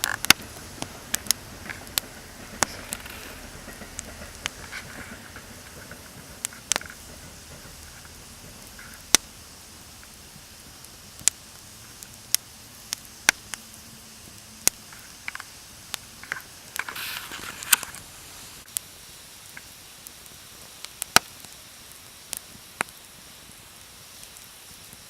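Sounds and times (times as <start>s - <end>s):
campfire crackling: 0.0s - 25.0s
fire hissing flare: 0.0s - 25.0s.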